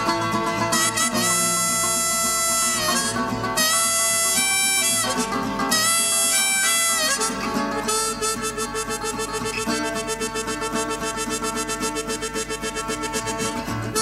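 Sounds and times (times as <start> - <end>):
acoustic guitar: 0.0 - 14.0
harmonica solo: 0.0 - 14.0.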